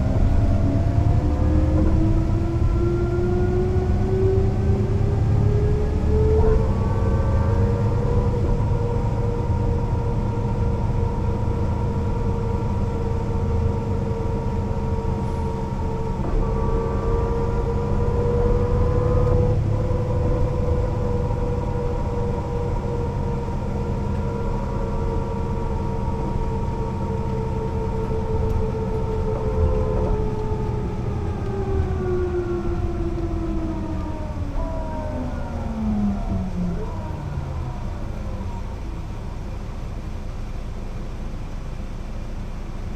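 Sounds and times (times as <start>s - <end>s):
bus diesel engine rumble: 0.0s - 42.9s
drivetrain whine: 0.0s - 42.9s.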